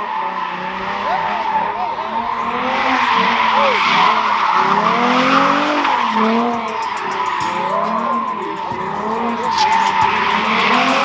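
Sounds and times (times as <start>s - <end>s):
car engine revving: 0.0s - 11.0s
tyres squealing: 0.0s - 11.0s.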